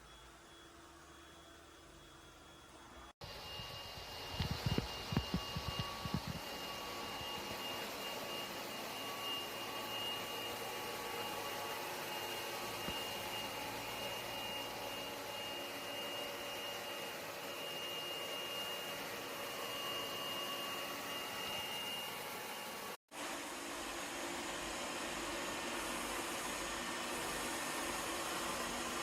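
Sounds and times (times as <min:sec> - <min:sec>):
robot vacuum cleaner whirring: 0:01.2 - 0:29.0.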